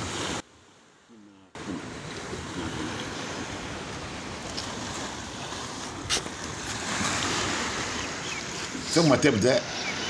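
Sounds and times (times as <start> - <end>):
sea waves washing on shore: 0.0 - 10.0.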